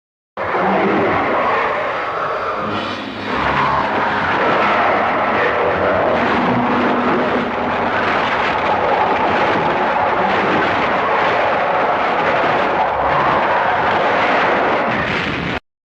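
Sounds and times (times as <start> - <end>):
harsh rasping monster roar: 0.4 - 15.0.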